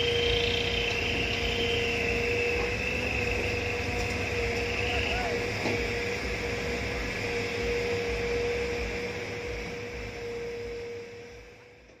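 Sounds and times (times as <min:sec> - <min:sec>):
constant machine whine: 0:00.0 - 0:12.0
heavy machinery engine hum: 0:00.0 - 0:12.0.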